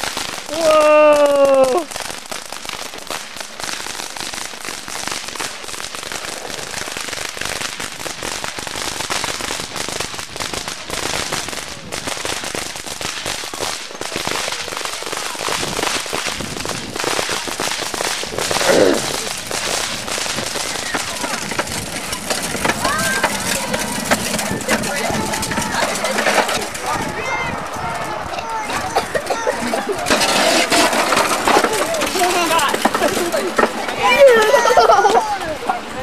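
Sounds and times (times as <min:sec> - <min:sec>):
fireworks crackling and popping: 0:00.0 - 0:36.0.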